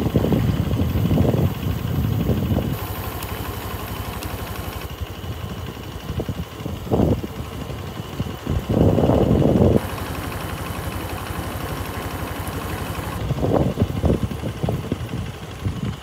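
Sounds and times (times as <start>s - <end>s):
small motorcycle engine chugging: 0.0s - 16.0s.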